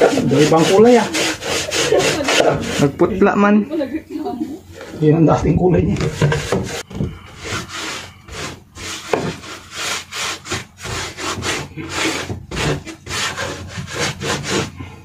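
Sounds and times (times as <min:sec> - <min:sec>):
paintbrush rubbing on wood: 0:00.0 - 0:03.2, 0:04.7 - 0:14.8.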